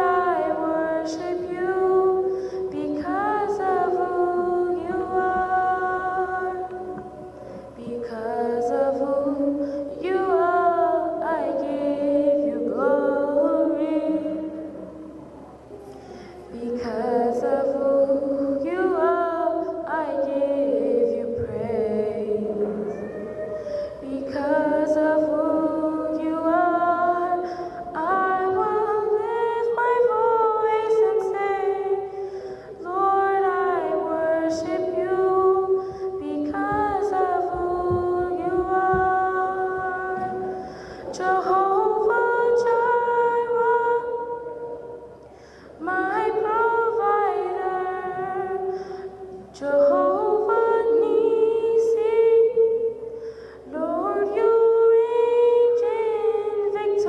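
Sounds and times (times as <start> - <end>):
girl singing into microphone: 0.0 - 57.0.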